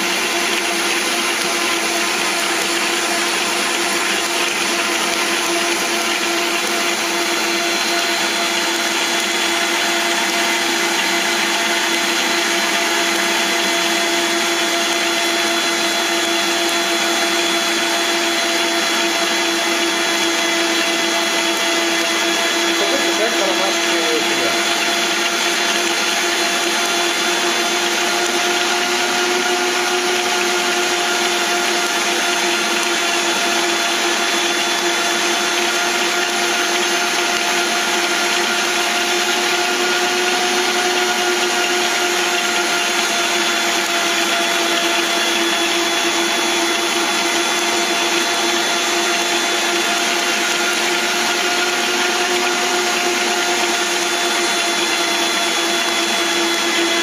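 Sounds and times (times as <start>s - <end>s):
stand mixer motor whine: 0.0s - 57.0s.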